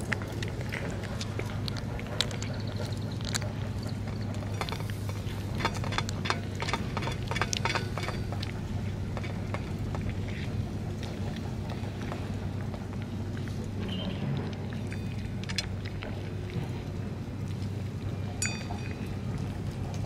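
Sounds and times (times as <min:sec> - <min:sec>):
cat chewing and smacking: 0:00.0 - 0:20.0
steady low rumble: 0:00.0 - 0:20.0.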